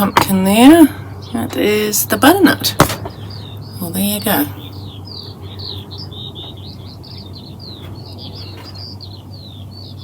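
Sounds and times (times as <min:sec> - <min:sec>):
low steady hum: 0:00.0 - 0:10.0
small birds chirping: 0:00.0 - 0:10.0.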